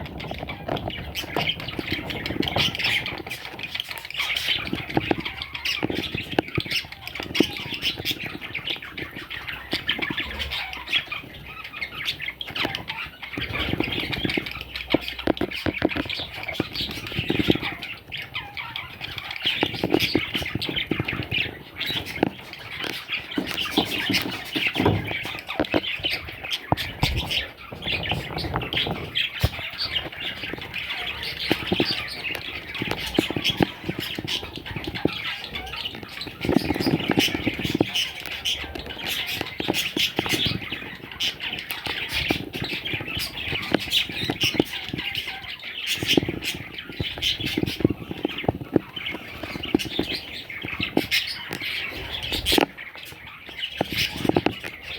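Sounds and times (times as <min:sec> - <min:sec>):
baby budgerigars chirping: 0:00.0 - 0:54.9.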